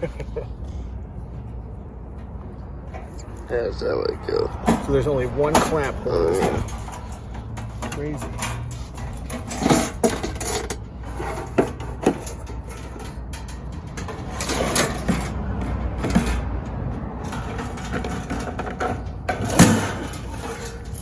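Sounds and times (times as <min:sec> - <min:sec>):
knocks and rustling of parts: 0:00.0 - 0:03.5, 0:04.3 - 0:21.0.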